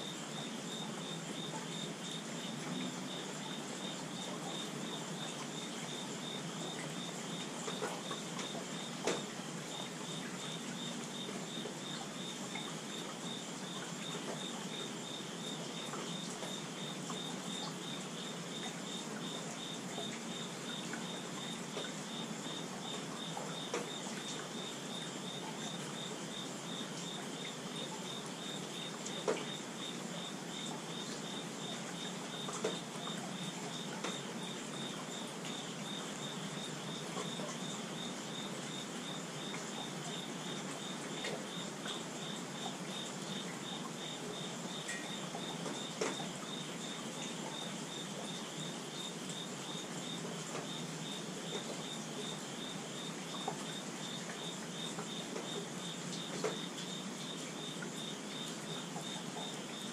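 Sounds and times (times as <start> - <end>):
insect chirping: 0.0 - 59.9.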